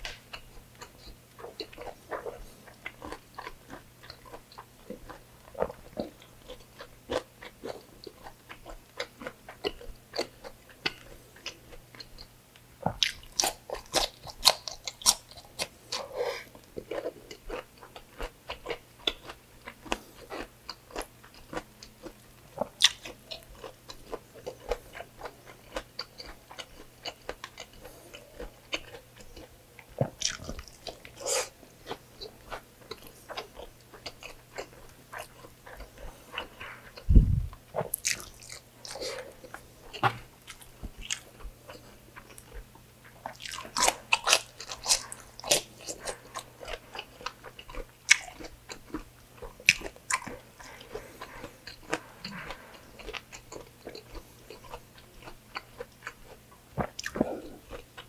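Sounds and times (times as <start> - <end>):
close-up chewing with wet clicks: 0.0 - 37.1, 37.7 - 58.0.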